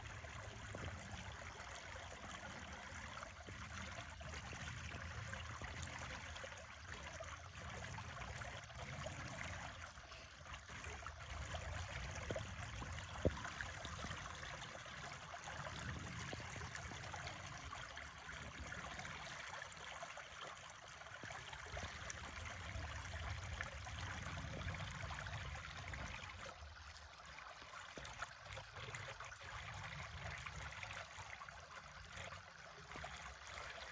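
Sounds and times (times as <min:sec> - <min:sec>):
creek water flowing: 0:00.0 - 0:33.9.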